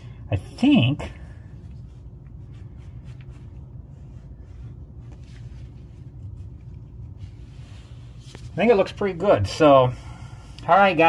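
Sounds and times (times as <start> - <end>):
low steady hum: 0.0 - 11.0
soft rustles and scrapes: 0.6 - 9.9.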